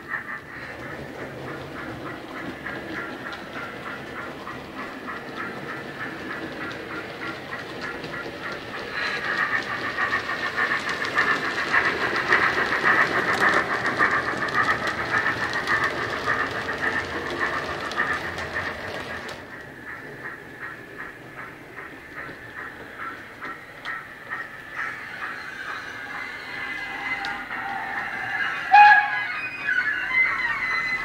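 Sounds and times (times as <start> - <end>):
model steam locomotive chuffs: 0.0 - 31.0
model wheels clicking on track: 0.1 - 27.4.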